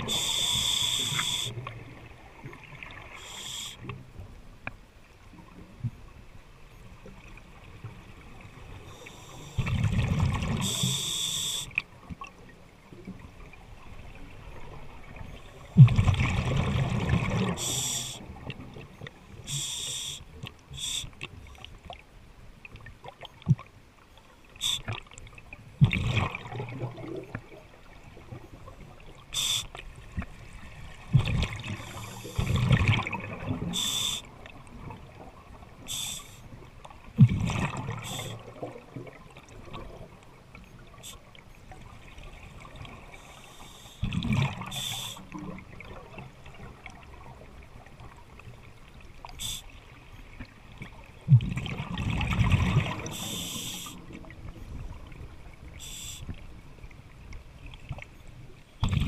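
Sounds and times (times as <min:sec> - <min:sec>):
exhaled bubbles gurgling underwater: 0:00.0 - 0:04.2, 0:06.9 - 0:22.0, 0:24.6 - 0:59.0.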